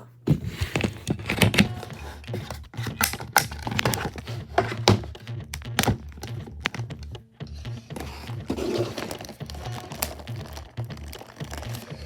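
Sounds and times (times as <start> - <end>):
plastic parts clicking and rattling: 0.6 - 7.2, 8.0 - 12.0.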